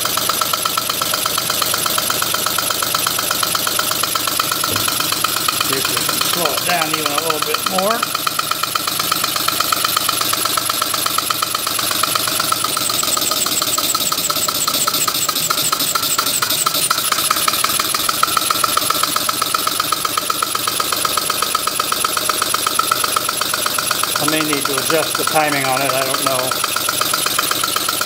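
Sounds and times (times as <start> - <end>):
model air engine exhaust puffs: 0.0 - 28.0.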